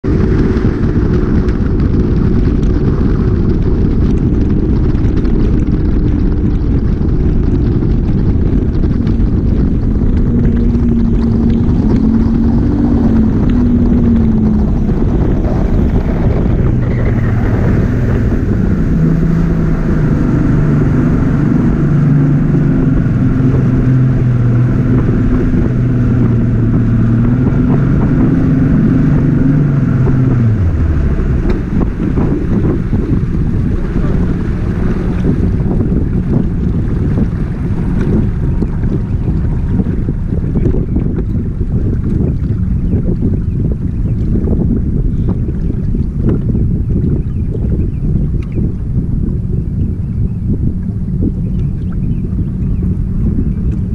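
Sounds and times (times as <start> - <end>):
outboard motor running: 0.0 - 53.9
wind on microphone: 0.0 - 53.9.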